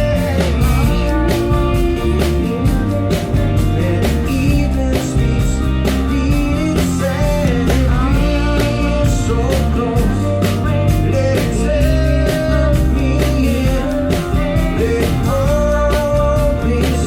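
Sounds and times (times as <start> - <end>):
drum and cymbal hits: 0.0 - 17.0
live rock song: 0.0 - 17.0
man singing: 0.0 - 17.0.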